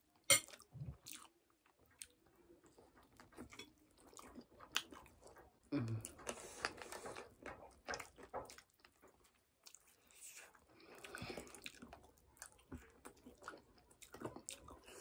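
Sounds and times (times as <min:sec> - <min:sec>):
people chewing chicken wings: 0:00.6 - 0:15.0.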